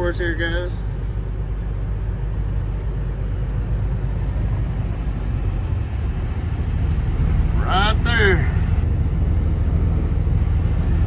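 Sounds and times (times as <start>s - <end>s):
diesel truck engine drone: 0.0s - 11.0s.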